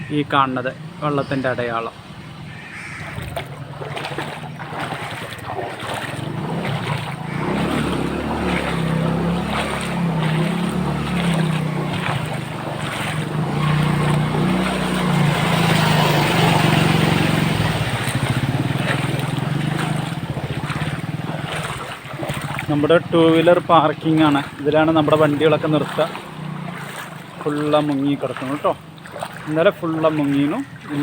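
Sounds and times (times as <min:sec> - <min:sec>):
water splashing and sloshing: 0:00.0 - 0:31.0
engine running: 0:02.1 - 0:31.0.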